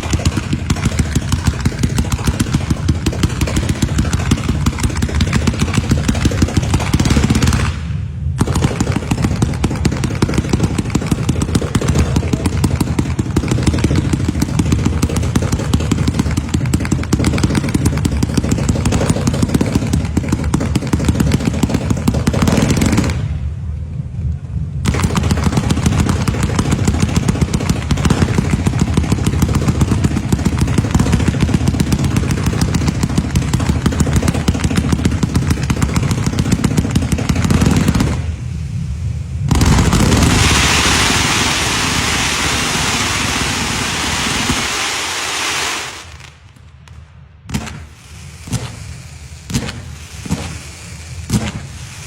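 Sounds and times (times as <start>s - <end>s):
fireworks cracking and banging: 0.0s - 52.0s.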